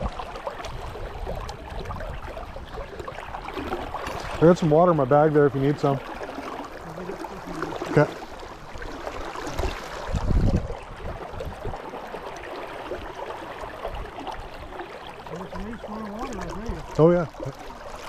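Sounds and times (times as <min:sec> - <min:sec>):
brook water running: 0:00.0 - 0:18.0.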